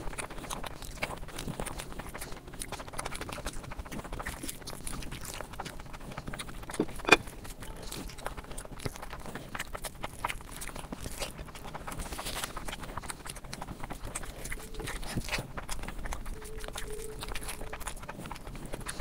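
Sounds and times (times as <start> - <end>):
wet chewing and lip smacks: 0.0 - 19.0.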